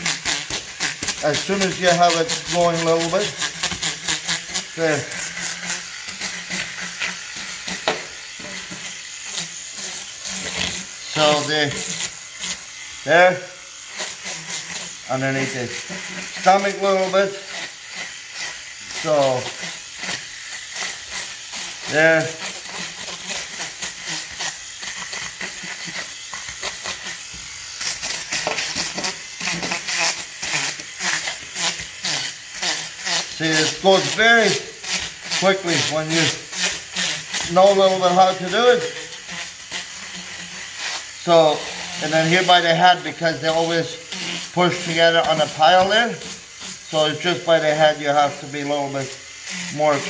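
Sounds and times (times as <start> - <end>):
electric scaler motor hum: 0.0 - 50.0
scaler rasping fish scales: 0.0 - 50.0.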